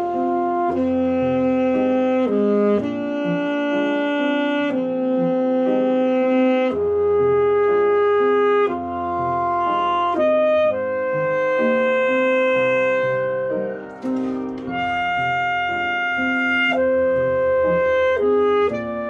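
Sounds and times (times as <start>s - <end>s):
alto saxophone melody: 0.0s - 19.0s
piano accompaniment: 0.0s - 19.0s.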